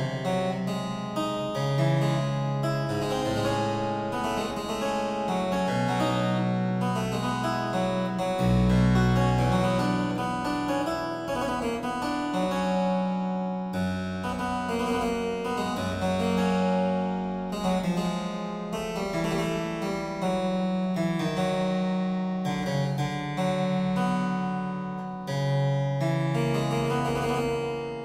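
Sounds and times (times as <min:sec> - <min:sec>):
harpsichord playing: 0:00.0 - 0:28.0.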